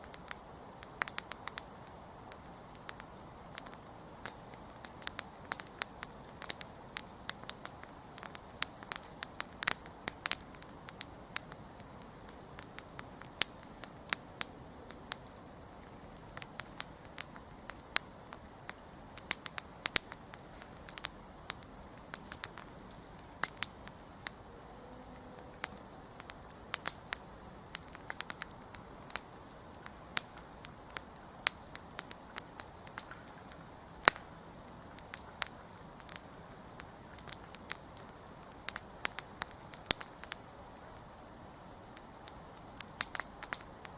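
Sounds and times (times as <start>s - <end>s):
campfire pops and snaps: 0.0s - 24.4s, 25.4s - 43.9s
fire burning hiss: 0.0s - 43.9s.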